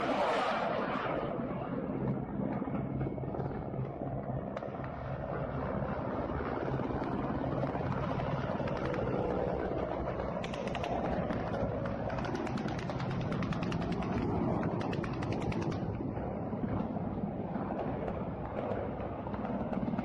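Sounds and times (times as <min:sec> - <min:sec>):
helicopter flying: 0:00.0 - 0:20.0.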